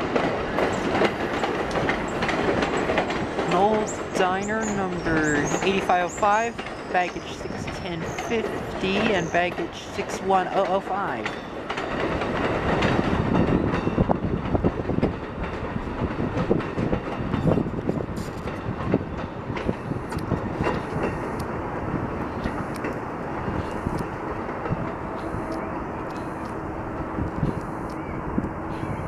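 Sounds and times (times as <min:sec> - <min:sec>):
train cars rumbling past: 0:00.0 - 0:29.0
wheels clicking over rail joints: 0:00.0 - 0:29.0.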